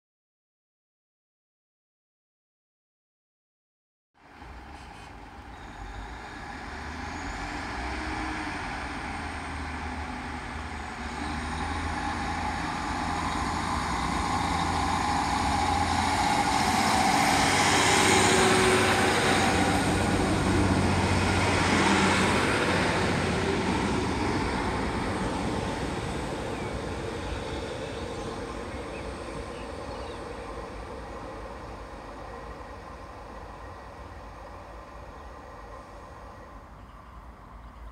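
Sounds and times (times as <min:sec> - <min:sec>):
diesel train passing: 0:04.2 - 0:37.9.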